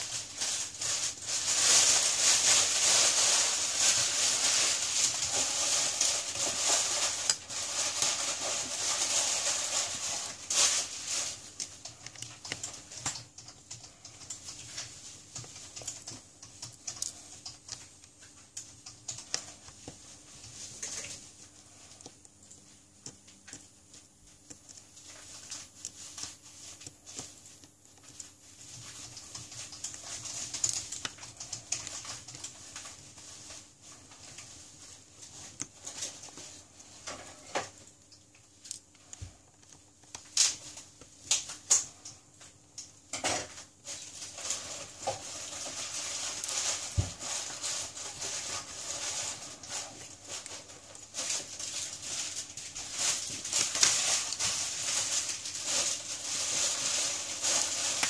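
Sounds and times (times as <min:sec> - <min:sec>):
scratchy hiss: 0:00.0 - 0:58.0.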